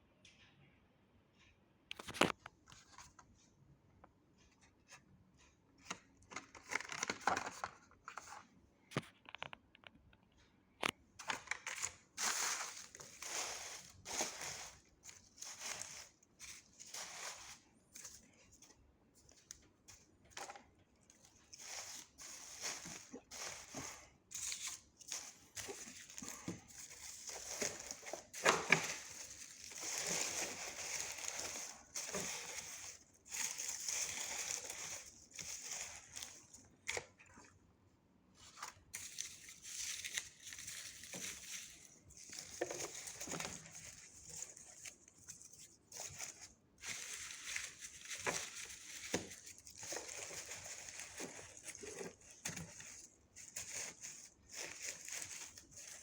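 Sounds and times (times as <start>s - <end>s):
cardboard and plastic rustling: 5.8s - 9.5s, 10.8s - 37.5s, 38.4s - 56.0s.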